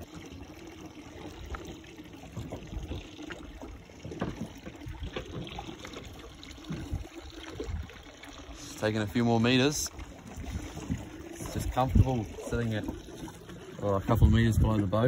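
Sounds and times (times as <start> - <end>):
small splashes: 0.0 - 14.4
water lapping against boat: 0.0 - 15.0.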